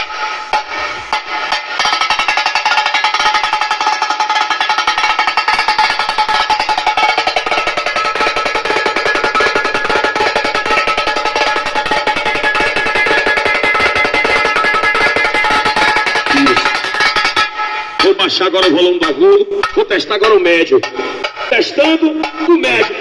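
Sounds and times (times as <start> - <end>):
bright percussive music from car speakers: 0.0 - 23.0.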